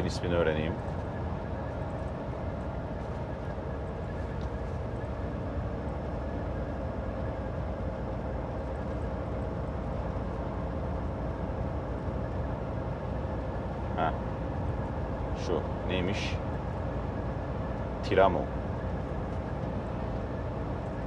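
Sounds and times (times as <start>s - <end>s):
diesel truck engine drone: 0.0s - 21.0s.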